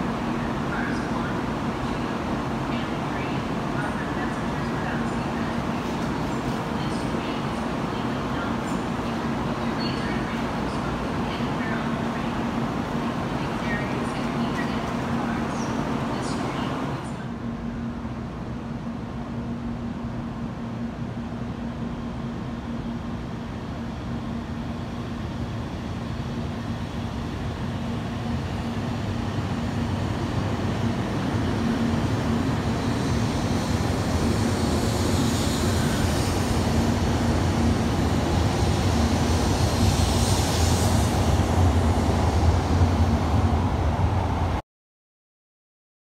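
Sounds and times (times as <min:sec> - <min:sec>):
high-speed train accelerating past: 0:00.0 - 0:44.6.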